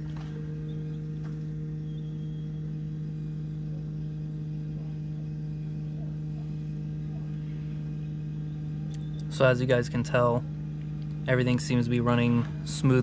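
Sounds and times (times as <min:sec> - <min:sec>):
electric fuel pump hum: 0:00.0 - 0:13.0.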